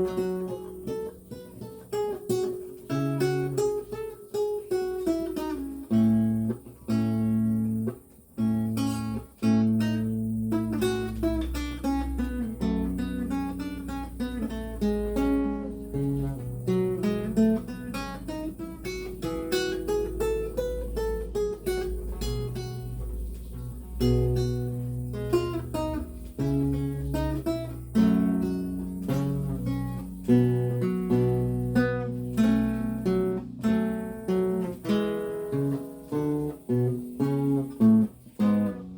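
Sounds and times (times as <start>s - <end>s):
solo lute playing: 0.0s - 38.9s.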